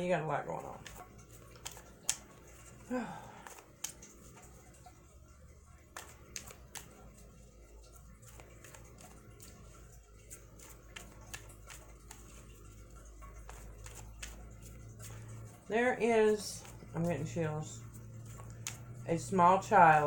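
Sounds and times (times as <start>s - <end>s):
cards being shuffled: 0.5s - 4.8s, 5.8s - 20.0s.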